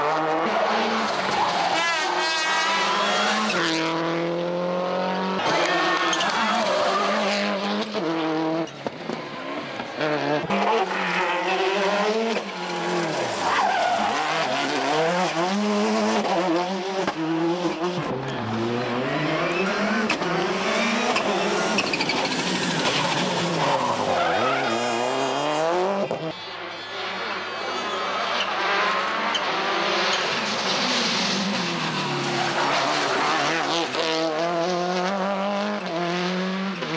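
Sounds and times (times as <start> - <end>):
rally car engines revving: 0.0 - 36.9.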